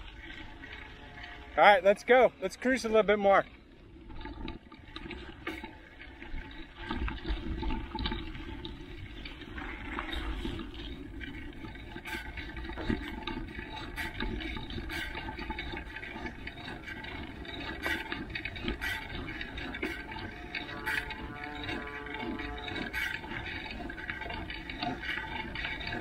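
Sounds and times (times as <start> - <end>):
bike rattling and clicking: 0.0 - 26.0.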